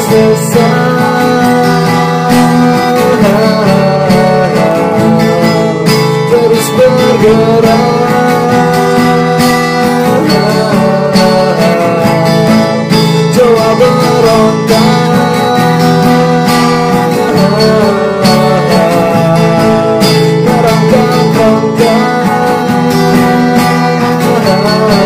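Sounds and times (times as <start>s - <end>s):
acoustic guitar strumming chords: 0.0s - 25.0s
sliding guitar melody: 0.0s - 25.0s.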